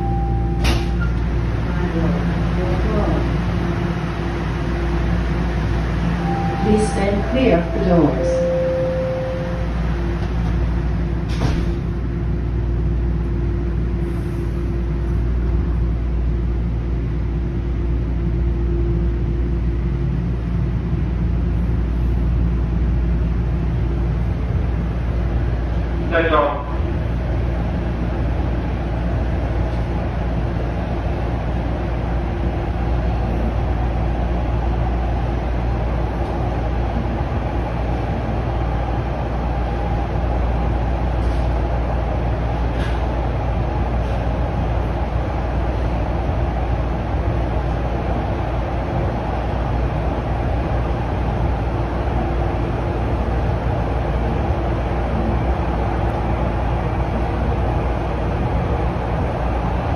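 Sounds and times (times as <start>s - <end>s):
steady hum: 0.0s - 59.9s
train wheels rumbling on rail: 0.0s - 59.9s.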